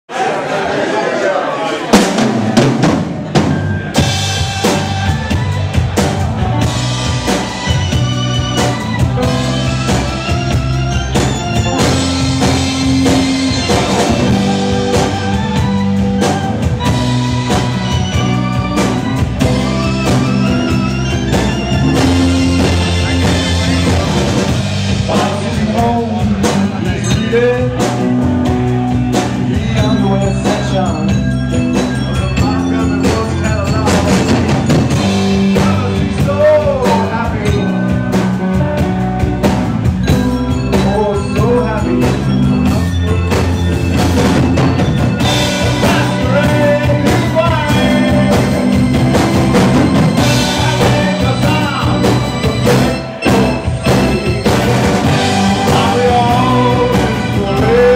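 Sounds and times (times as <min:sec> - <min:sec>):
drum kit: 0:01.8 - 0:57.9
electric guitar: 0:02.2 - 0:57.9
electric bass: 0:02.4 - 0:57.9.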